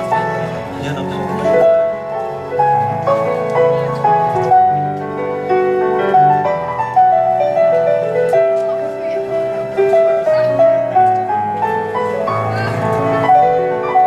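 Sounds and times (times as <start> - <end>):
electronic keyboard piano melody: 0.0 - 14.0.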